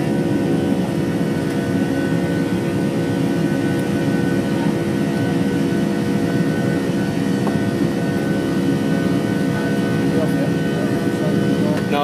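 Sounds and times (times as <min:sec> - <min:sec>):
airliner engines from inside cabin: 0:00.0 - 0:12.0.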